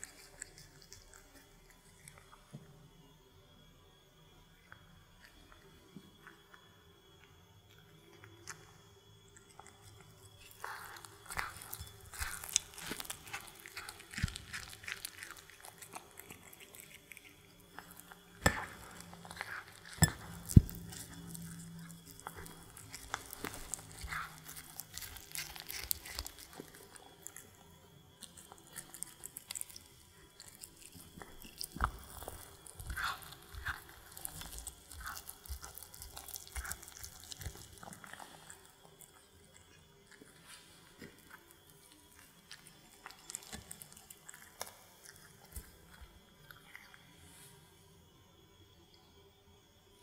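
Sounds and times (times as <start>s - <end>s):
cat chewing pastry: 0.0s - 2.6s, 4.6s - 47.6s.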